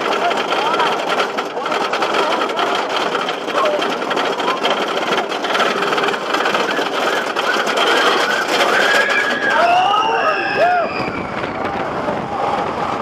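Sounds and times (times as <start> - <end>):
roller coaster train clattering: 0.0 - 13.0.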